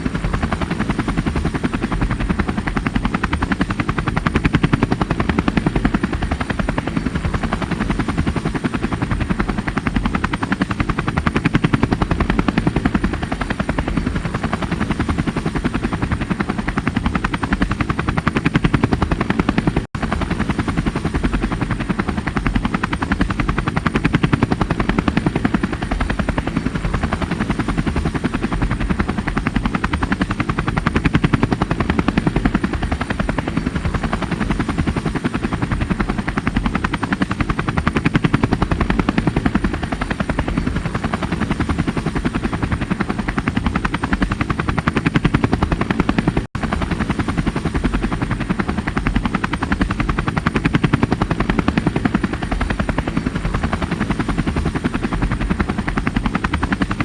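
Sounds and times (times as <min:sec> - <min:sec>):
helicopter rotor chopping: 0:00.0 - 0:57.0.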